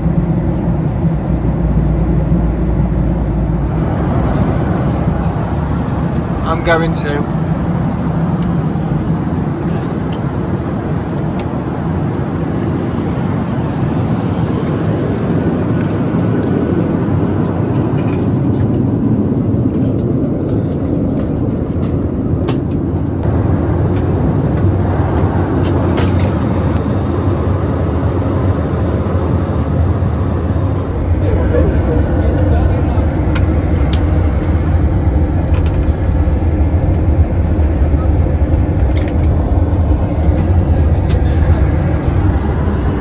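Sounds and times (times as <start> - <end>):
airplane engines and airflow rumble: 0.0 - 43.0.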